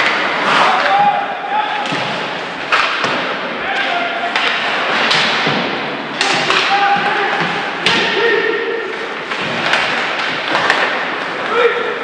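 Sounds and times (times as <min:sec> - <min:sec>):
puck and players hitting boards: 0:00.0 - 0:12.0.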